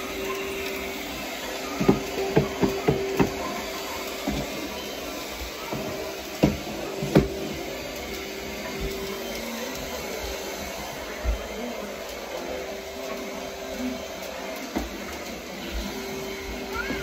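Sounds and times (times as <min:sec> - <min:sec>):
vacuum cleaner humming: 0:00.0 - 0:17.0.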